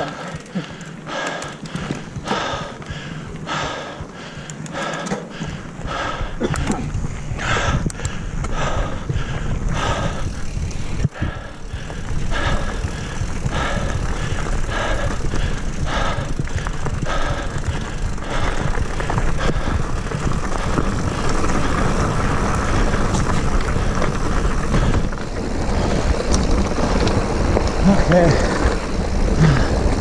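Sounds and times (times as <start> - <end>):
bike tyres on dirt trail: 0.0 - 30.0
wind rumble on microphone: 5.5 - 30.0.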